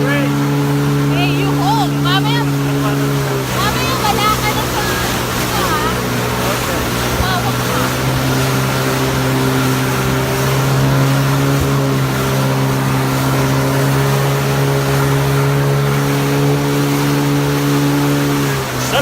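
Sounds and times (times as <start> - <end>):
jet ski engine drone: 0.0 - 19.0
rushing wind and water: 0.0 - 19.0.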